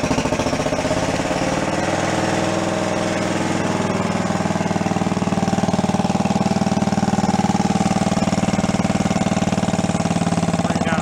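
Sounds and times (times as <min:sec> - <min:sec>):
small engine idling with thumping beat: 0:00.0 - 0:11.0.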